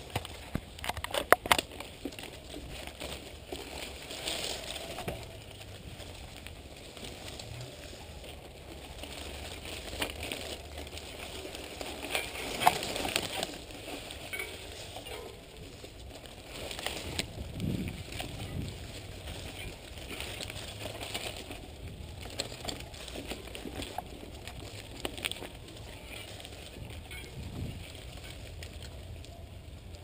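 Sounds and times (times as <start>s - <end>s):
bike clicks and knocks over bumps: 0.0s - 30.0s
leaves and branches scraping past: 1.1s - 29.4s.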